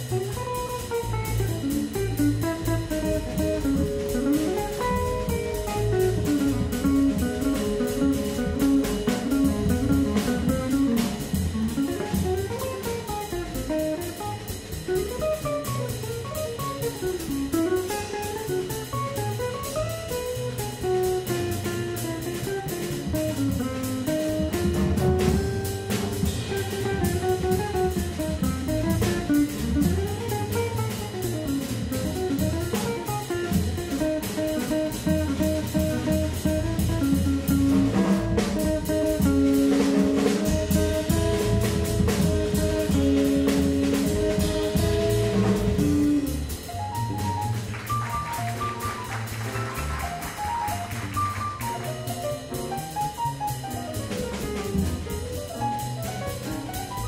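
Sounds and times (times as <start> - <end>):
drum kit with cymbals: 0.0 - 57.0
electric guitar bebop lines: 0.0 - 57.0
upright bass: 0.0 - 57.0.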